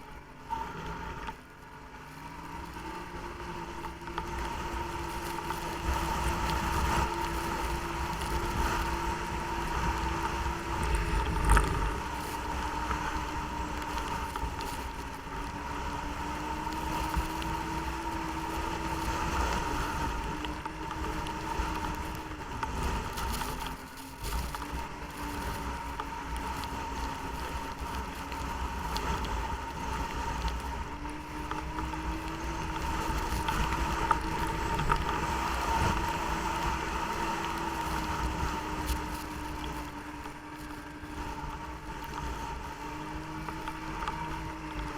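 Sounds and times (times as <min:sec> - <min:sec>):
snowmobile engine droning: 0:00.0 - 0:44.9.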